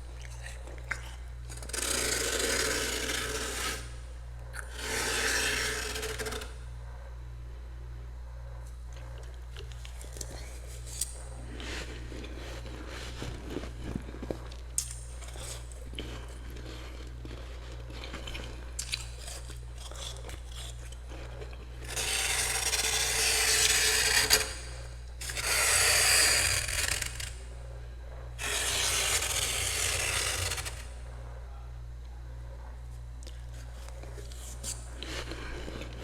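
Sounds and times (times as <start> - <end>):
spoon scraping freezer frost: 0.2 - 4.0, 4.6 - 6.6, 9.2 - 27.4, 28.4 - 31.0, 33.2 - 36.0.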